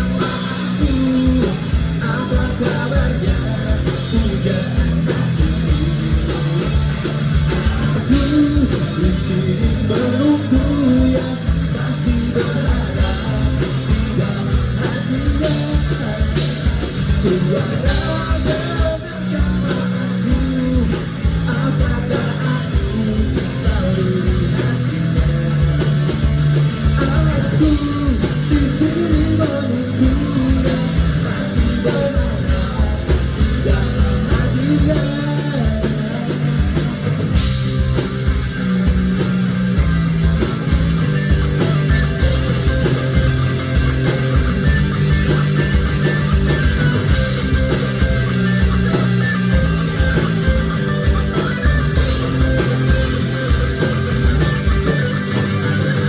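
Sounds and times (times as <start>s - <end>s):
live pop-rock band: 0.0s - 56.0s.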